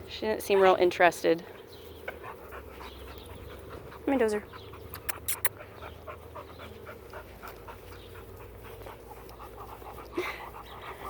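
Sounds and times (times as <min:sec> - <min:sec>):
dog panting: 0:00.3 - 0:11.0.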